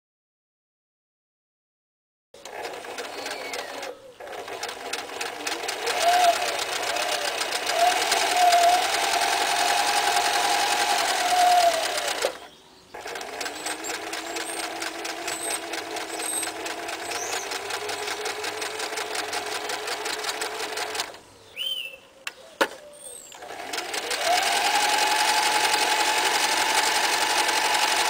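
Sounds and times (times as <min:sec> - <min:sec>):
sewing machine stitching: 0:02.4 - 0:21.2, 0:23.3 - 0:28.0.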